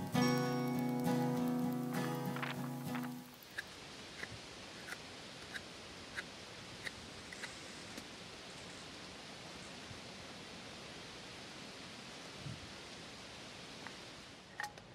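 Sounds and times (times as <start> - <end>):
faint rustling hiss: 0.0 - 14.6.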